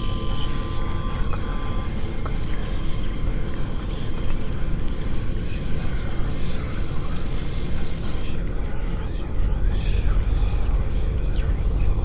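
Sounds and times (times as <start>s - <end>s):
noisy low rumble: 0.0s - 12.0s.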